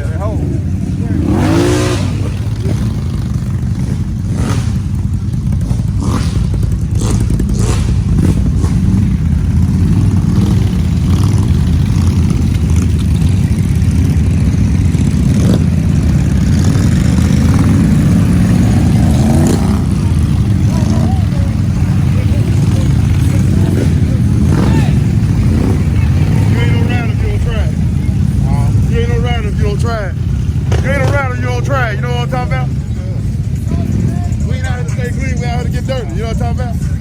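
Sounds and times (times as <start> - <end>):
atv engine running under load: 0.0 - 37.0.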